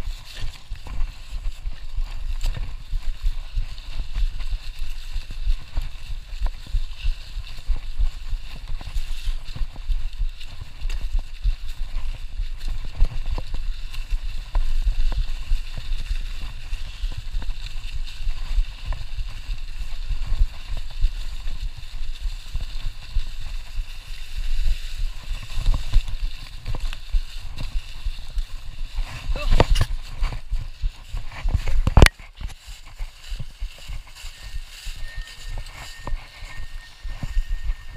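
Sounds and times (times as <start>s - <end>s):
bicycle tyres rustling leaves: 0.0s - 37.9s.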